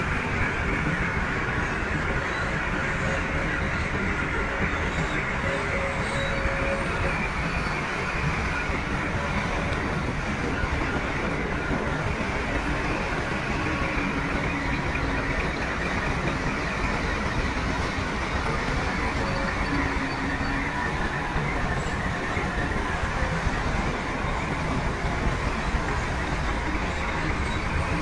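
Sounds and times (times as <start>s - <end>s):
steel tracks clattering and squeaking: 0.0s - 28.0s.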